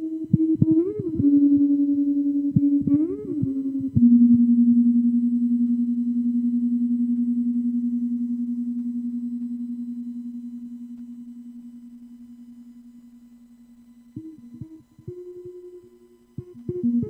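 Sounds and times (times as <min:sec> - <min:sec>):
low electric guitar note pulsing: 0:00.0 - 0:17.0.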